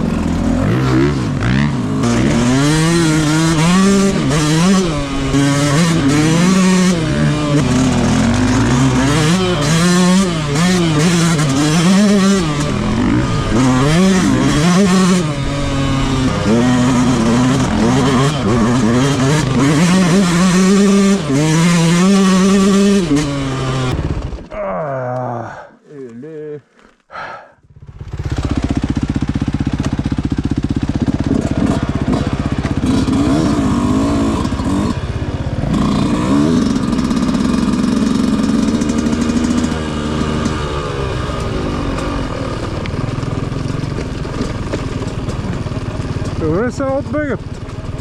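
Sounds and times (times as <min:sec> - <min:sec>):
motocross bike engine revving: 0:00.0 - 0:25.1, 0:27.1 - 0:48.0.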